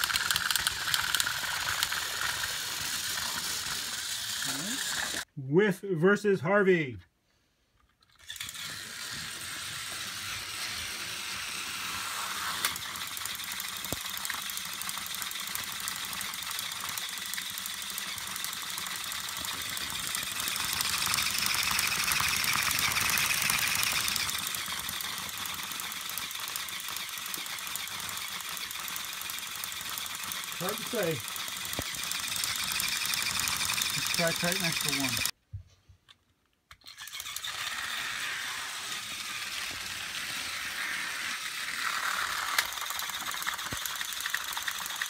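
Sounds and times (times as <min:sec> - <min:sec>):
toy train motors whirring: 0:00.0 - 0:05.3, 0:07.8 - 0:35.4, 0:36.7 - 0:45.0.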